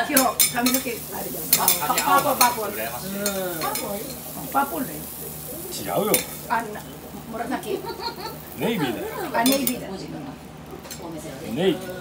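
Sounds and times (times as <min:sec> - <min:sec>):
egg sizzling on hot plate: 0:00.0 - 0:12.0.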